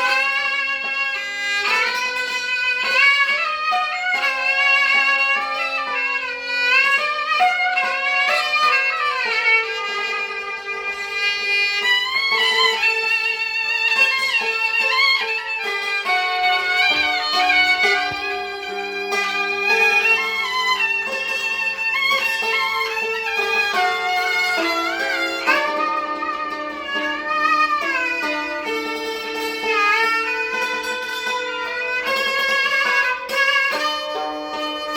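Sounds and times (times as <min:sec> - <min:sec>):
bowed string melody with slides: 0:00.0 - 0:34.9
struck dulcimer notes: 0:00.0 - 0:34.9.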